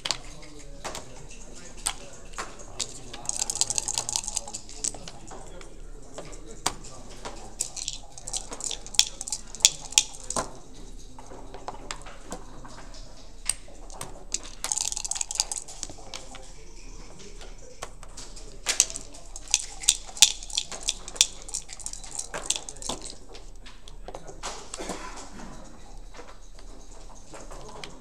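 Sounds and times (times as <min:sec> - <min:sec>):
checkers clacking: 0:00.0 - 0:28.0
dice rattling on board: 0:00.0 - 0:28.0.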